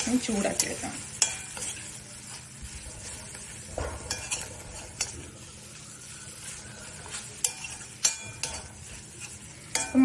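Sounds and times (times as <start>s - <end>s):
spoon scraping and tapping pan: 0.0s - 5.4s, 7.0s - 10.0s
vegetables sizzling in a pan: 0.0s - 10.0s.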